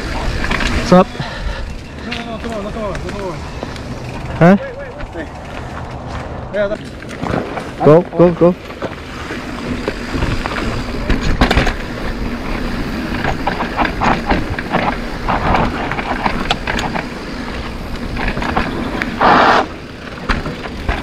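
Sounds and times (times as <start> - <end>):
bike rattling over bumps: 0.0 - 21.0
bike tyre and wind noise: 0.0 - 21.0.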